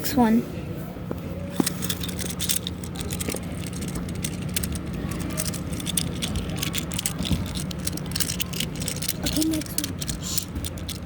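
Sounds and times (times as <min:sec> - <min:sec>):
steady low hum: 0:00.9 - 0:11.0
fidget toy clicking: 0:01.6 - 0:11.0.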